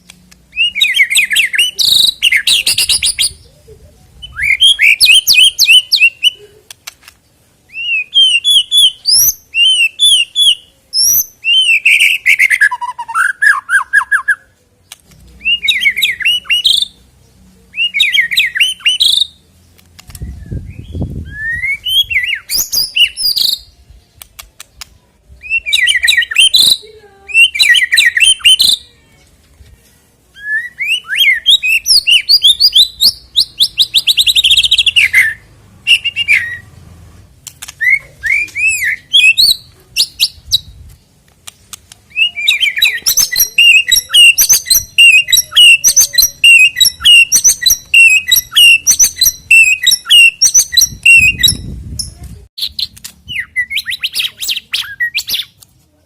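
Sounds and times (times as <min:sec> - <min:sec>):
bird singing whistles and trills: 0:00.5 - 0:03.4, 0:04.2 - 0:06.4, 0:07.7 - 0:14.5, 0:15.4 - 0:17.0, 0:17.8 - 0:19.4, 0:20.1 - 0:24.0, 0:25.4 - 0:28.8, 0:30.4 - 0:36.6, 0:37.8 - 0:40.8, 0:42.1 - 0:55.6.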